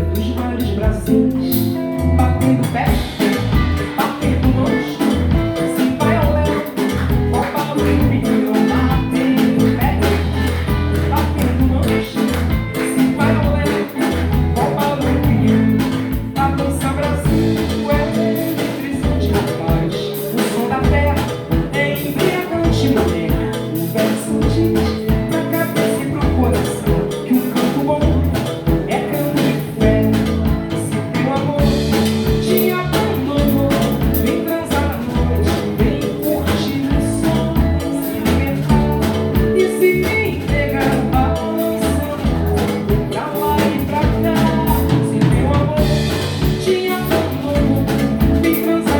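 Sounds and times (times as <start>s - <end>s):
acoustic guitar: 0.0s - 48.9s
drum kit: 0.0s - 48.9s
electric bass: 0.0s - 48.9s.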